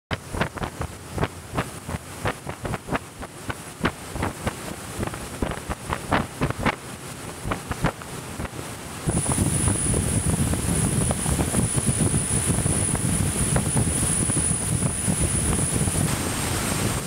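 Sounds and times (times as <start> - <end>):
wind buffeting microphone: 0.1 - 6.8, 7.4 - 17.0
water rushing past boat: 0.1 - 17.0.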